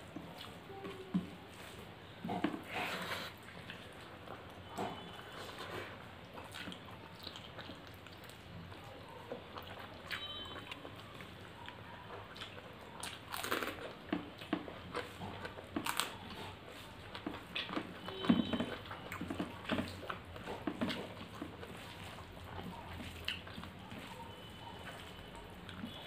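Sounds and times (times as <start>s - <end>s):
chewing: 0.0s - 26.0s.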